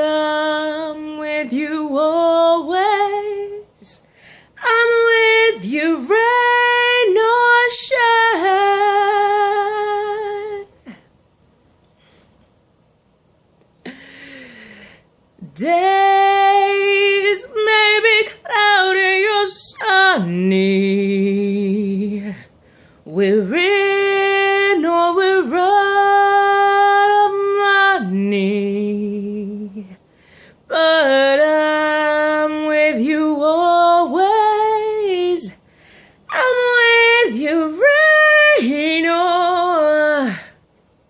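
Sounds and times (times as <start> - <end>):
woman singing a cappella: 0.0 - 11.0, 15.4 - 40.7.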